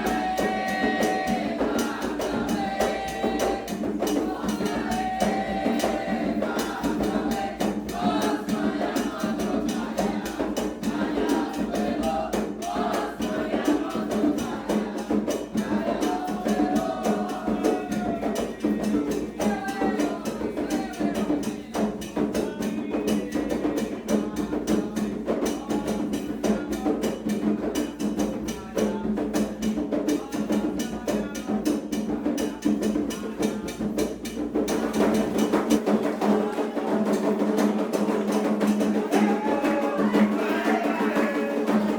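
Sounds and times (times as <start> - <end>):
fast percussion strokes: 0.0 - 41.9
group singing a chant: 0.0 - 41.9
hand drums: 0.0 - 41.9.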